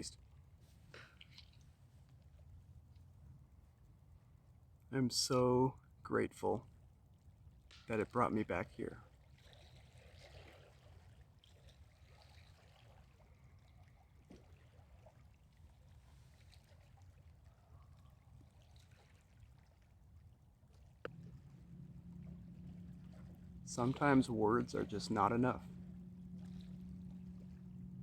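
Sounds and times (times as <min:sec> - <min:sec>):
faint low hum: 0:00.0 - 0:28.0
faint low outdoor rumble: 0:00.0 - 0:28.0.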